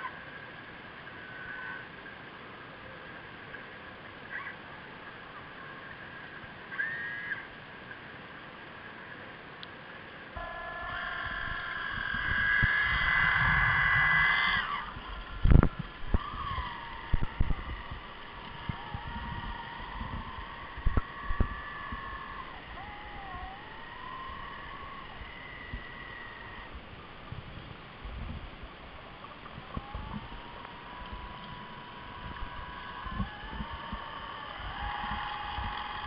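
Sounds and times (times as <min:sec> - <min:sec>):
underwater motor and propeller whine: 0:00.0 - 0:36.0.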